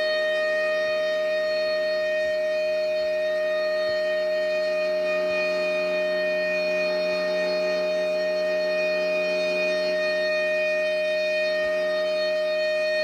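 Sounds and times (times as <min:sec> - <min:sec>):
warning siren steady tone: 0:00.0 - 0:13.0.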